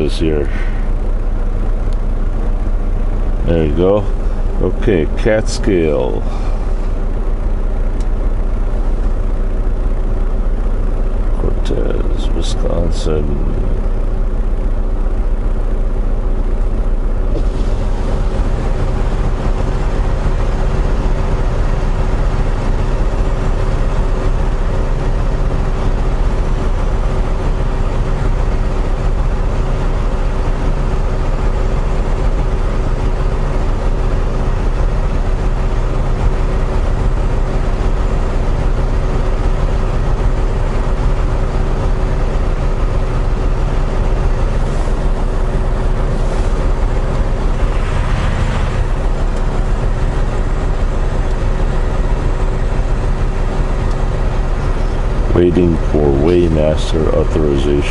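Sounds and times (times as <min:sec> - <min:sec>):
truck diesel engine drone: 0:00.0 - 0:57.9.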